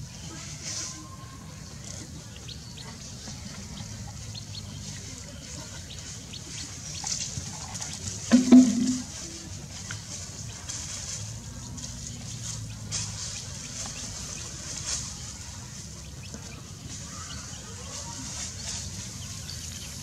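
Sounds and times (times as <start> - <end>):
chick peeping: 0.2 - 20.0.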